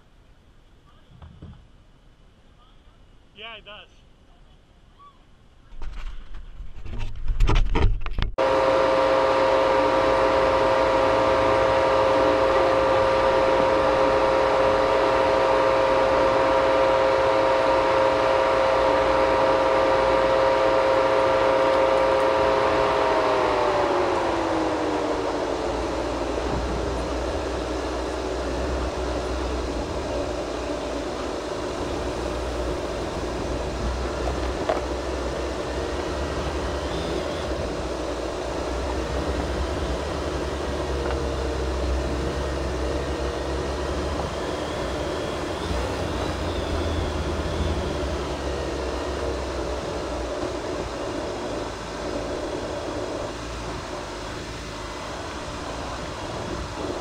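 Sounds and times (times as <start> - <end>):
engine and drivetrain rumble: 8.3 - 57.0.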